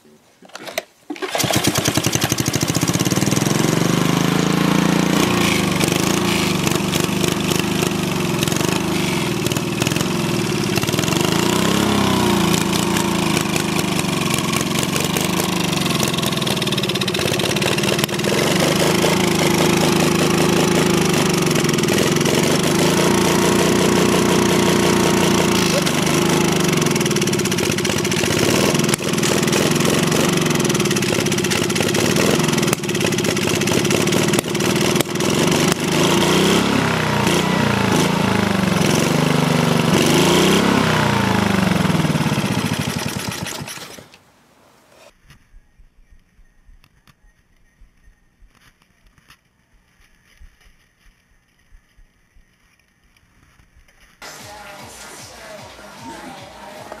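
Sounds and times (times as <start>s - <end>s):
lawn mower engine surging: 0.4s - 45.1s, 54.2s - 57.0s.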